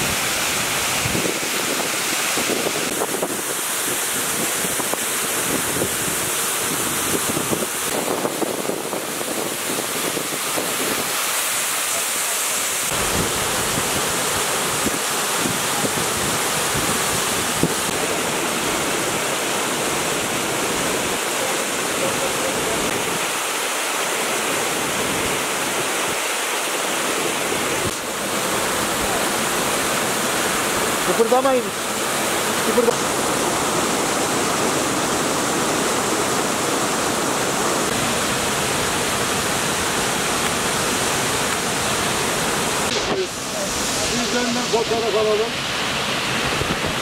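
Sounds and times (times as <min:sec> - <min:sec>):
waterfall roaring onto rocks: 0:00.0 - 0:47.0.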